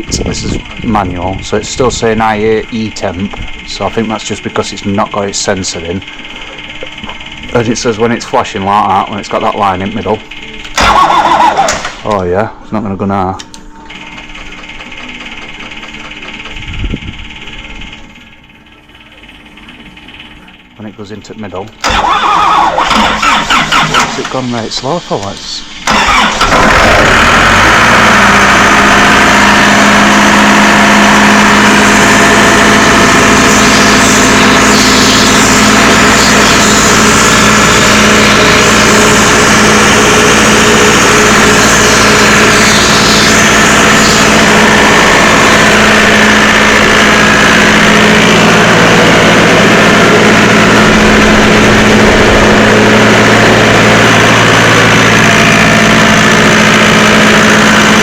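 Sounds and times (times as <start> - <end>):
diesel engine droning: 0.0 - 12.4, 15.4 - 58.0.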